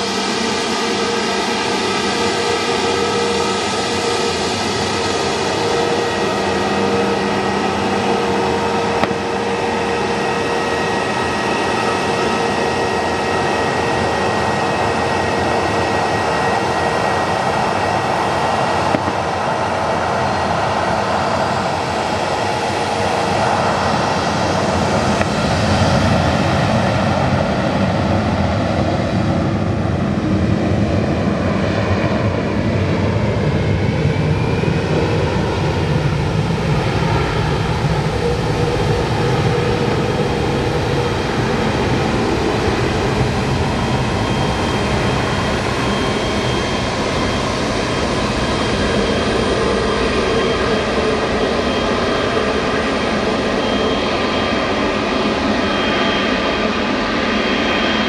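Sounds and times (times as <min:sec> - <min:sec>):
jet engines rushing and whining: 0:00.0 - 0:58.0.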